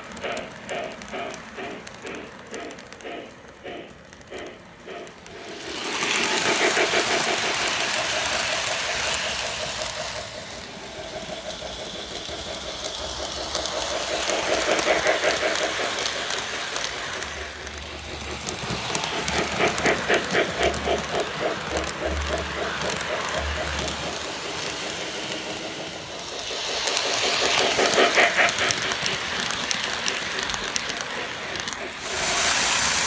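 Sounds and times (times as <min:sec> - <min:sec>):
model train rattling on track: 0:00.0 - 0:33.0.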